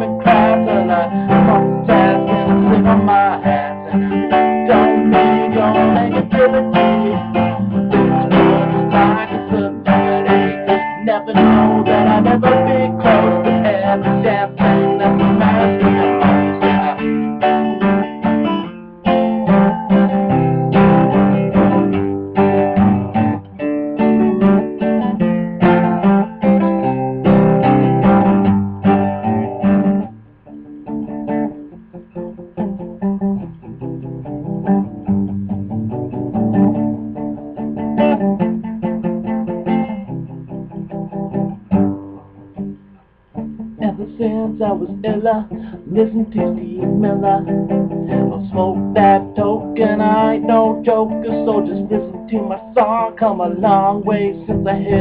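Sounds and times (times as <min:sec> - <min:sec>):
guitar strumming chords: 0:00.0 - 0:55.0.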